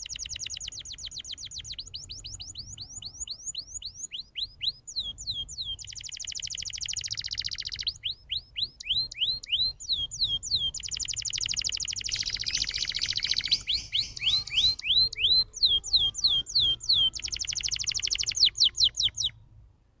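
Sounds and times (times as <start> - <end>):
canary singing: 0.0 - 19.4.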